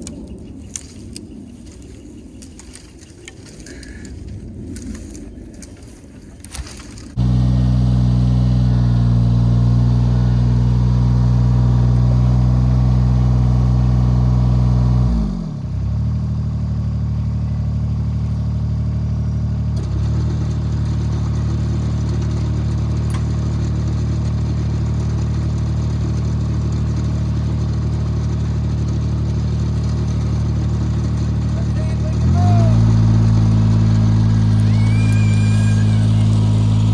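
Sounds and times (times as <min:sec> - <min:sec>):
tractor diesel engine running: 0:07.1 - 0:36.9.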